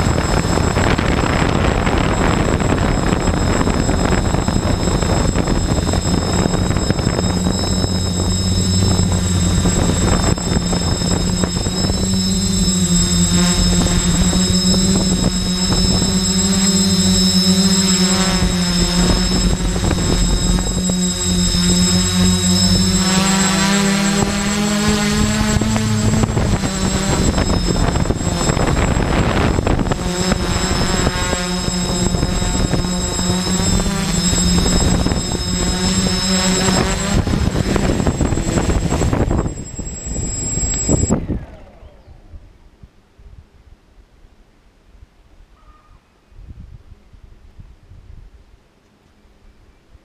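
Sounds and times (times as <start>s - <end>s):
quadcopter motors buzzing: 0.0s - 42.6s.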